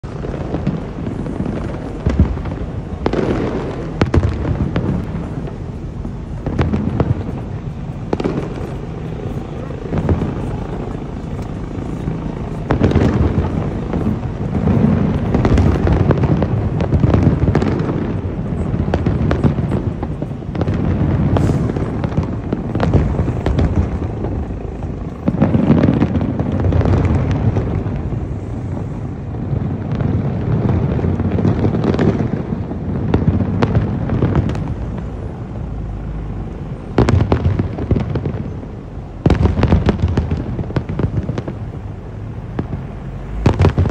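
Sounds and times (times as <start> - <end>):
fireworks booming and crackling: 0.0 - 43.9
sharp fireworks bangs: 0.0 - 43.9.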